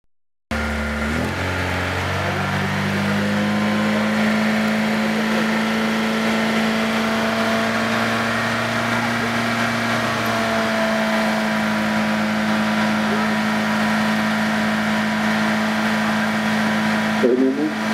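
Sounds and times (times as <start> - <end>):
loud bass tone from car speakers: 0.5 - 17.9.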